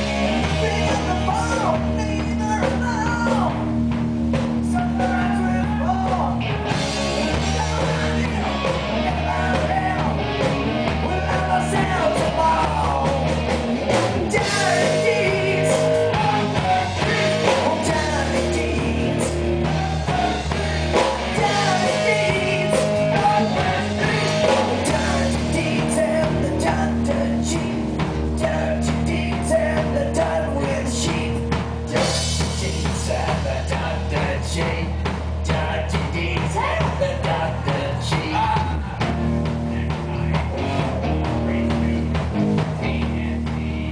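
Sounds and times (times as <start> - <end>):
man singing: 0.0 - 3.6, 7.3 - 43.9
drum kit: 0.0 - 43.9
electric guitar: 0.0 - 43.9.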